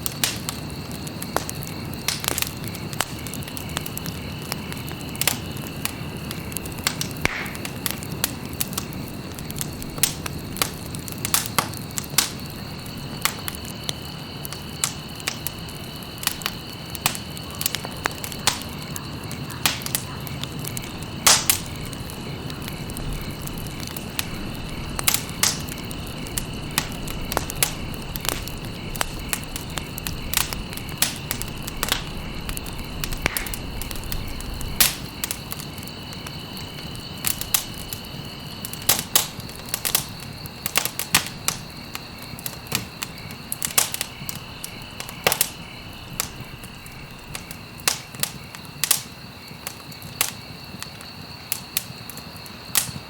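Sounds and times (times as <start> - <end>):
campfire crackling and popping: 0.0 - 53.0
rush of flames: 0.0 - 53.0.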